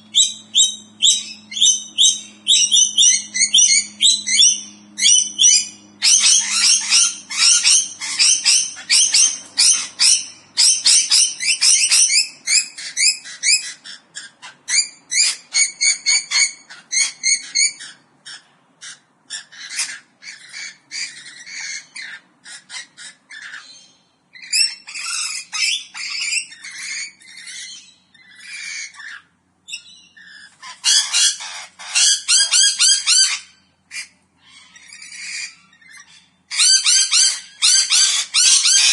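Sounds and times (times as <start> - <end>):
parrots chattering and squawking: 0.0 - 38.9.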